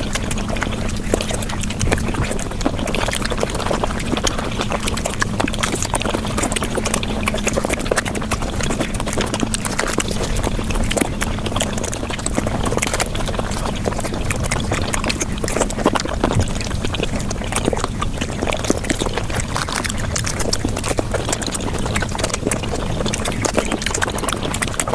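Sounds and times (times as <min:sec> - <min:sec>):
wet mouth chewing clicks: 0:00.0 - 0:24.9.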